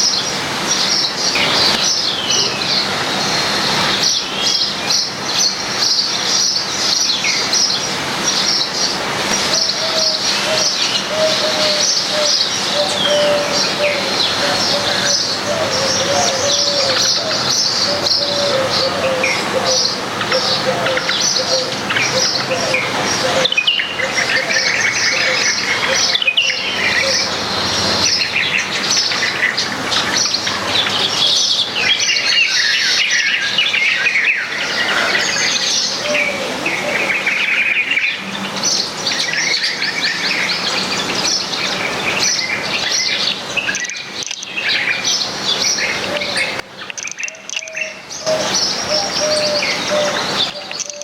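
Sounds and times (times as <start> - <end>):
small birds chirping and twittering: 0.0 - 51.0.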